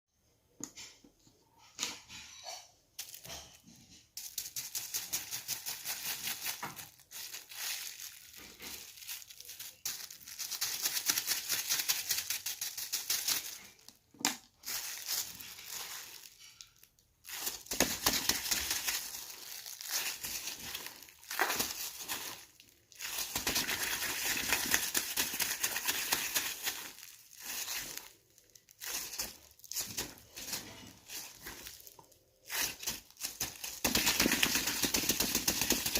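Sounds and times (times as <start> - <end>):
plastic bag crinkling: 3.0 - 35.9.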